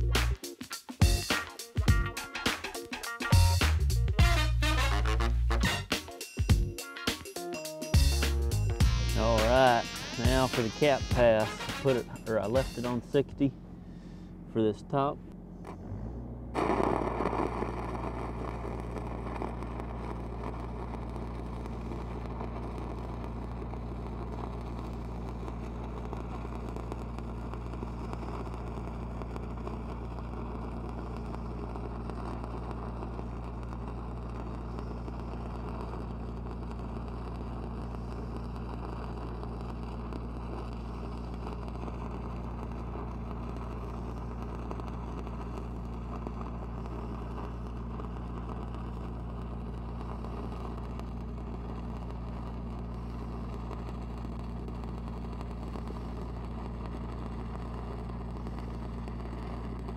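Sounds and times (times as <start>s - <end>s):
welding arc crackling: 0.0s - 13.5s, 16.5s - 59.9s
welding machine engine drone: 0.0s - 59.9s.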